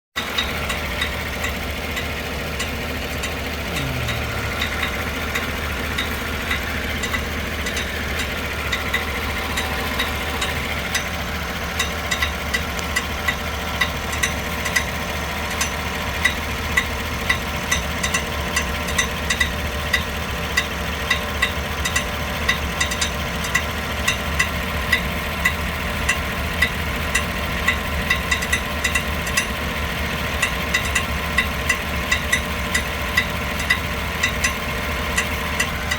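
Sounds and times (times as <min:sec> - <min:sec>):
car engine idling: 0:00.2 - 0:35.9.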